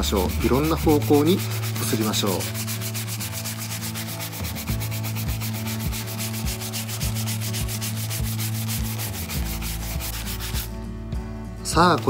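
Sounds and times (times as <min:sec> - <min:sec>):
brush scrubbing leather: 0:00.0 - 0:10.7.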